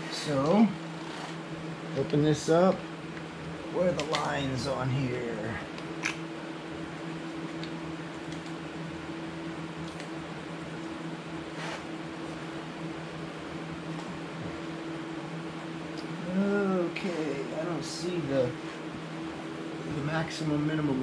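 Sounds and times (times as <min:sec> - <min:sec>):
machine hum with hiss: 0:00.0 - 0:21.0.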